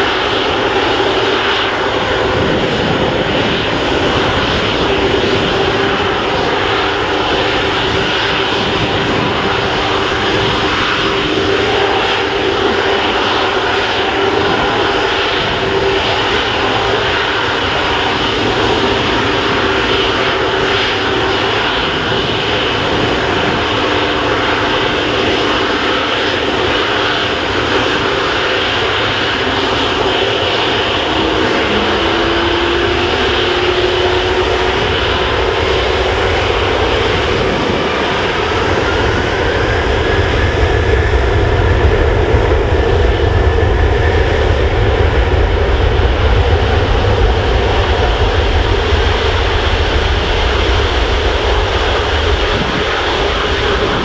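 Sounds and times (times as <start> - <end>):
jet engines whining and rumbling: 0.0 - 54.0.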